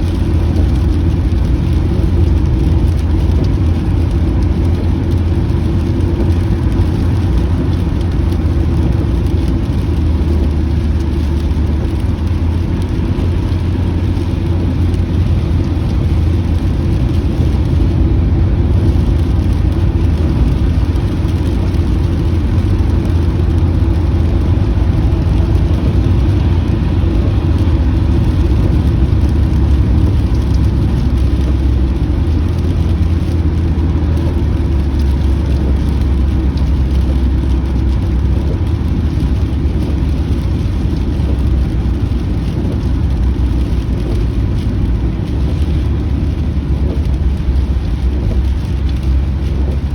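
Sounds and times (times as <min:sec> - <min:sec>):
car engine and road drone: 0:00.0 - 0:49.9.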